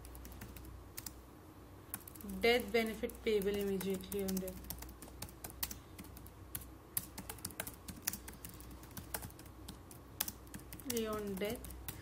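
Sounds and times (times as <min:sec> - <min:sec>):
computer keyboard typing: 0:00.0 - 0:01.2, 0:01.9 - 0:12.0
faint low hum: 0:00.0 - 0:12.0.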